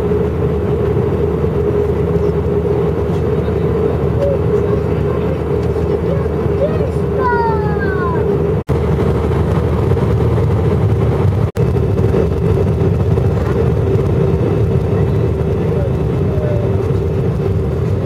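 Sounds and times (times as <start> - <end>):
jet engine cabin roar: 0.0 - 18.0.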